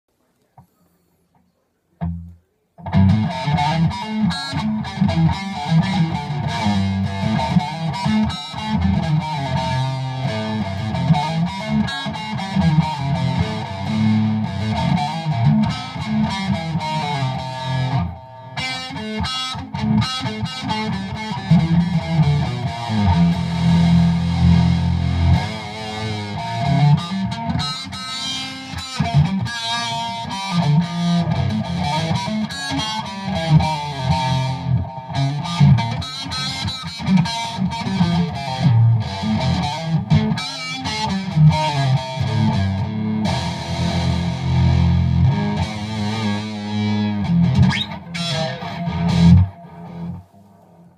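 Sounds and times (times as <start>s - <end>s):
distorted guitar music: 2.0s - 50.9s.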